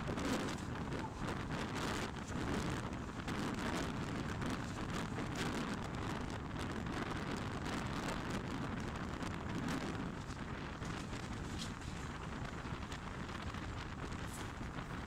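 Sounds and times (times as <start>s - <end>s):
train wheel-on-rail noise: 0.0s - 15.0s.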